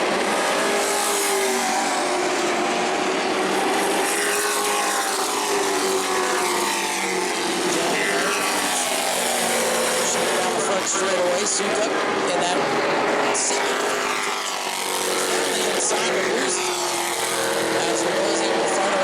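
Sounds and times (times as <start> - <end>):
race truck engines passing: 0.0 - 19.0.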